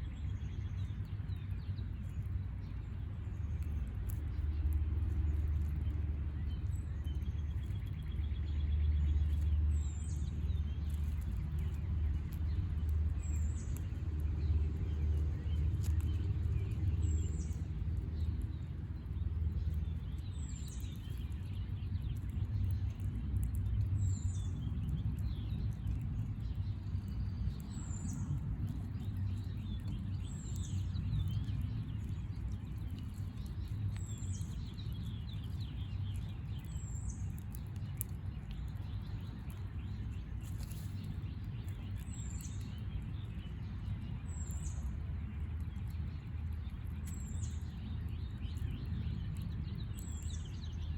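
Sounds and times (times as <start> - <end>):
low steady rumble: 0.0 - 50.9.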